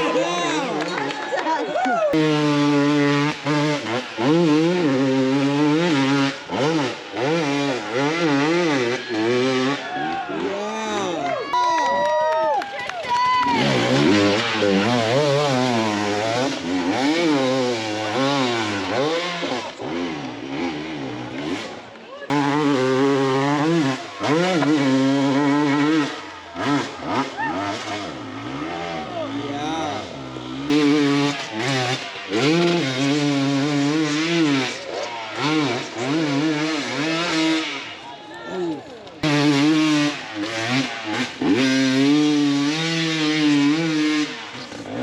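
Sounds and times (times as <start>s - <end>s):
dirt bike engine revving: 2.1s - 11.3s, 13.3s - 45.0s.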